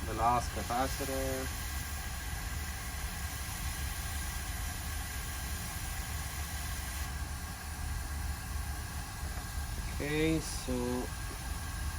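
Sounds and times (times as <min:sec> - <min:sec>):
airflow hiss: 0:00.0 - 0:11.9
electronics hum: 0:00.0 - 0:11.9.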